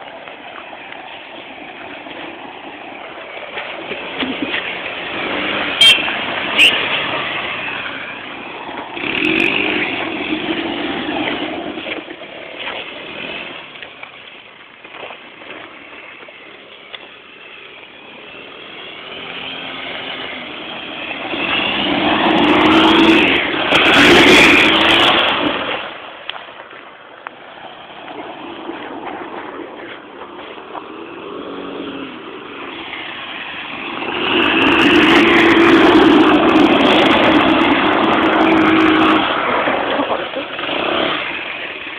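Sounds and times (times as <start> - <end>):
atv engine revving: 0.0 - 14.0, 15.0 - 26.3, 27.4 - 41.9.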